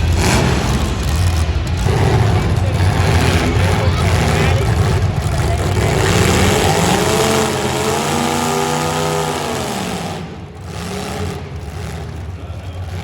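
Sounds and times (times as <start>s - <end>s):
car engine revving: 0.0s - 13.0s
loud background noise: 0.0s - 13.0s.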